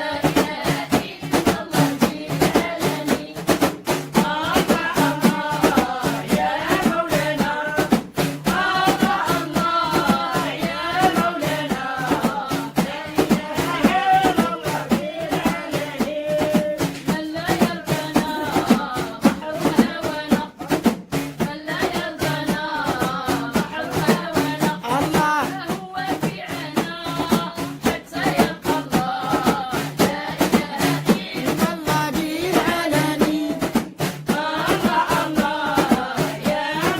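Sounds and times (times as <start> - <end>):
person singing melodically: 0.0 - 20.8, 21.4 - 36.9
percussion beat: 0.0 - 36.9.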